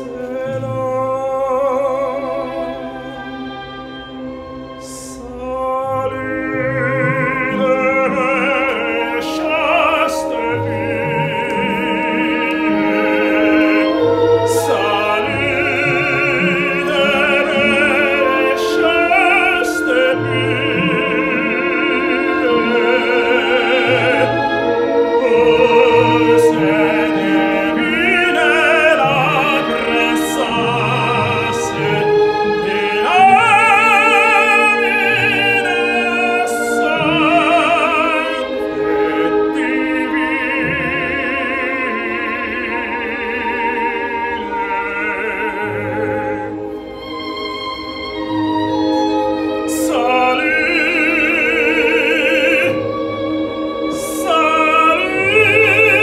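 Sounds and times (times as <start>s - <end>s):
instrumental accompaniment: 0.0s - 56.0s
tenor singing opera: 0.0s - 56.0s.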